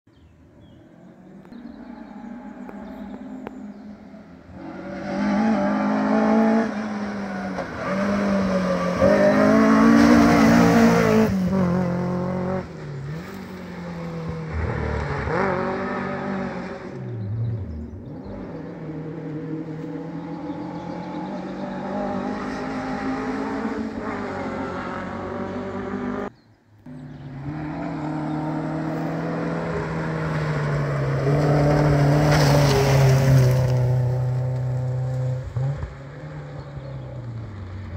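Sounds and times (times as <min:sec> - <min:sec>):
rally car engines revving: 0:00.6 - 0:37.9.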